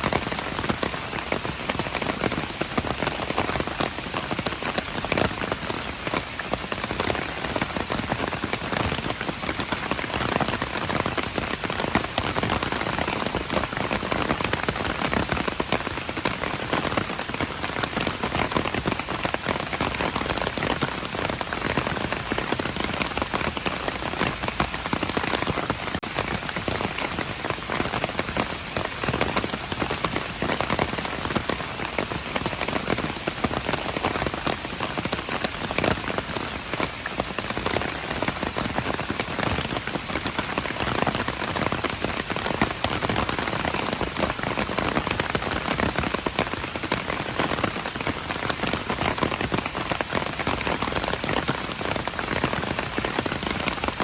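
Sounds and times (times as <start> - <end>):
rain on hard surfaces: 0.0 - 54.0.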